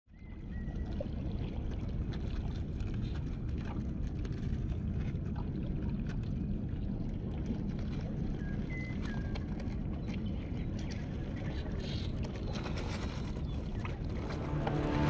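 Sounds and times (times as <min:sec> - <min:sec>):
river water along shore: 0:00.1 - 0:15.0
wind: 0:00.1 - 0:15.0.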